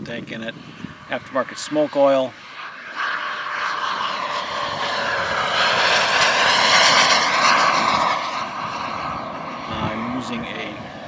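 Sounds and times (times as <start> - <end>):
model jet turbine whine: 0.0 - 11.0.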